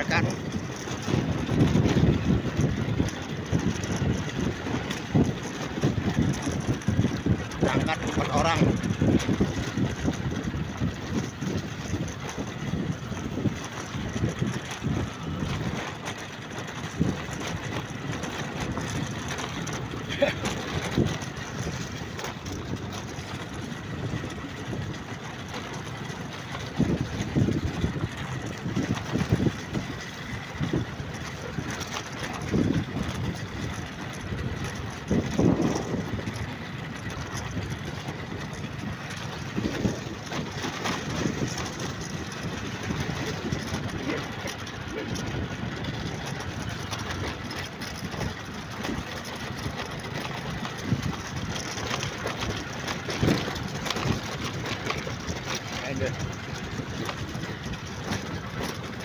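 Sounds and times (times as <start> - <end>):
low thumps and rushes: 0.0 - 59.0
vehicle engine running: 0.0 - 59.0.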